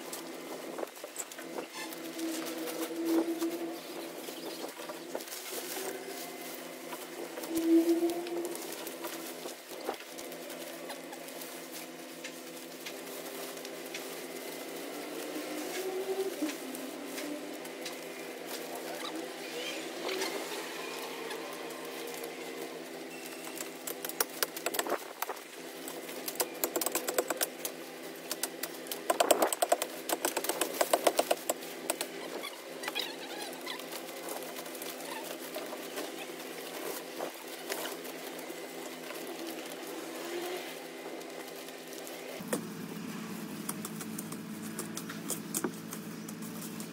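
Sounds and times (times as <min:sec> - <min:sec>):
dry branches crackling and snapping: 0:00.0 - 0:46.9
steady low hum: 0:00.0 - 0:46.9.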